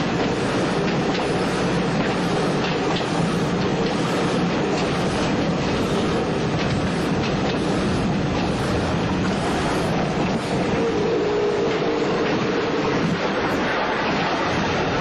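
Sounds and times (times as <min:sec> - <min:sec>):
roller coaster wheels rumbling on rail: 0:00.0 - 0:15.0.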